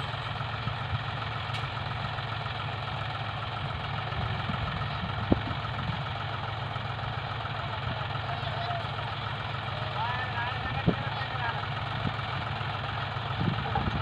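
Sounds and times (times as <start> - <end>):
tractor diesel engines running: 0.0 - 14.0.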